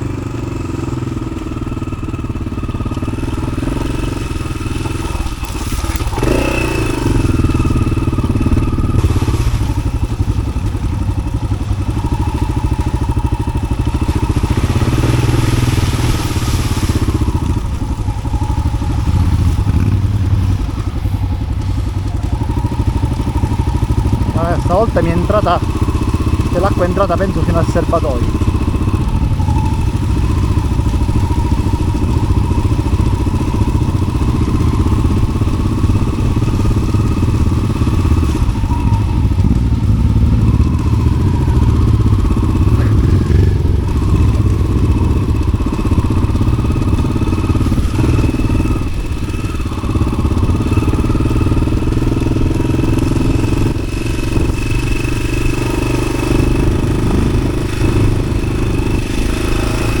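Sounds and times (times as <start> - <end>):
engine knocks and clatter: 0.0 - 60.0
motorcycle engine running: 0.0 - 60.0.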